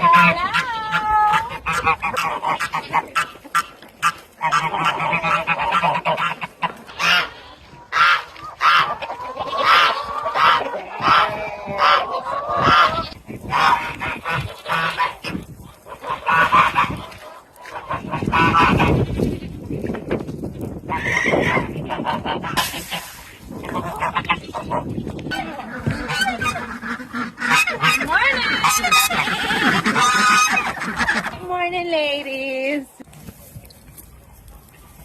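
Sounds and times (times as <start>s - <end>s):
geese honking: 0.0s - 19.1s, 20.9s - 31.5s.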